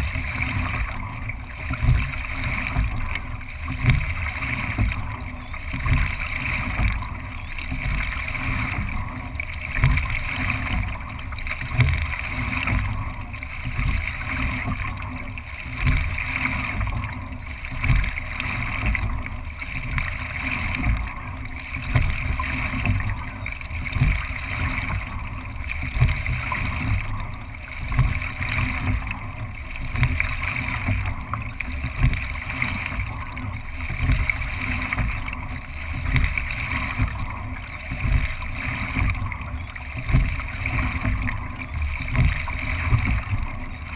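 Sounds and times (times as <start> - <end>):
rowing stroke surge and knock: 0.0 - 43.9
water rushing along hull: 0.0 - 43.9.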